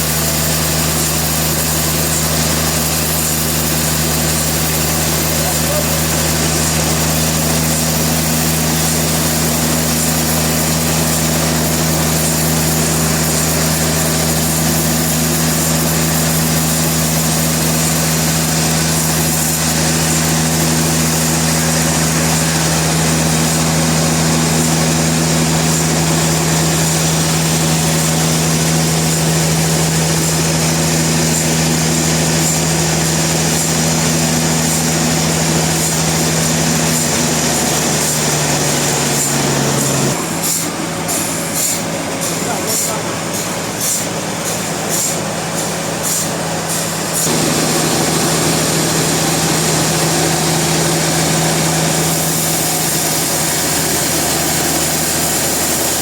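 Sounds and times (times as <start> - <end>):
machinery hiss: 0.0 - 56.0
sawmill machinery drone: 0.0 - 56.0.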